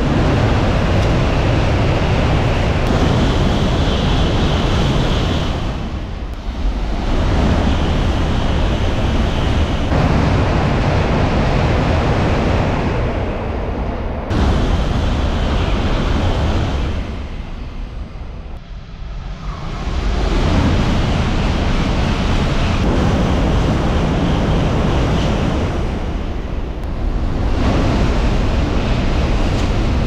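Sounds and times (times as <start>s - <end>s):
high-speed train rushing past: 0.0s - 30.0s.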